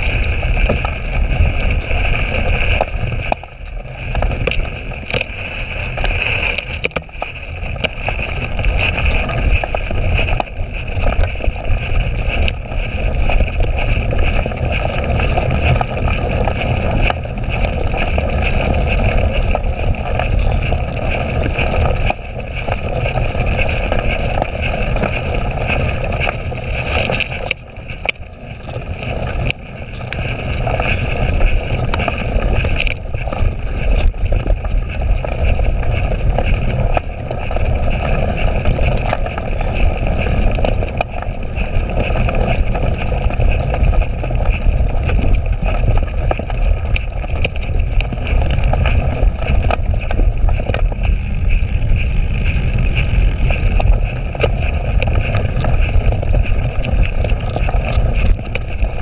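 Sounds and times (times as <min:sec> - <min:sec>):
bike knocking and rattling: 0:00.0 - 0:59.0
bike tyres rolling on grass: 0:00.0 - 0:59.0
wind buffeting microphone: 0:00.0 - 0:59.0.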